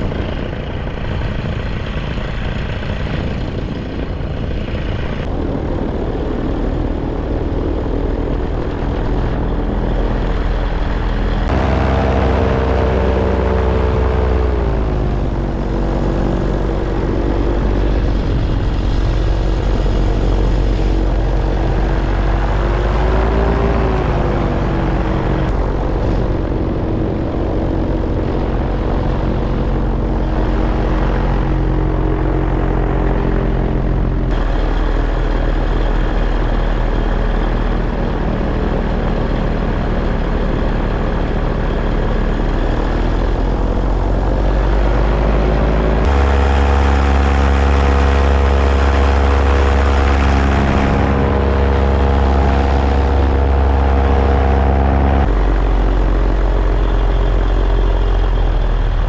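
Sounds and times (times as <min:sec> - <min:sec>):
paramotor engine and propeller: 0:00.0 - 0:59.0
wind on microphone: 0:00.0 - 0:59.0.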